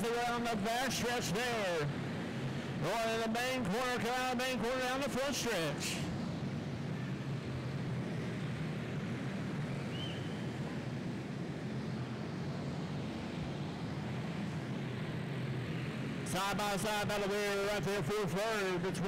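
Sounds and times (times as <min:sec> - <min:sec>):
small race car engines droning: 0:00.0 - 0:19.0.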